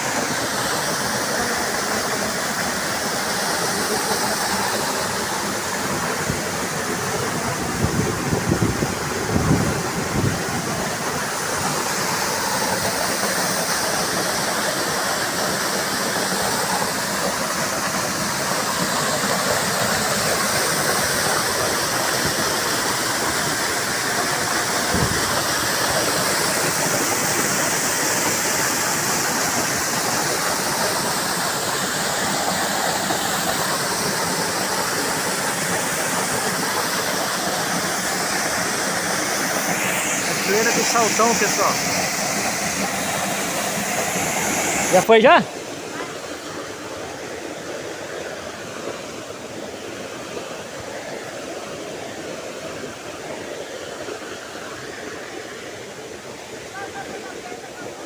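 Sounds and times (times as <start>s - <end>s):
waterfall rushing onto rock: 0.0s - 58.0s.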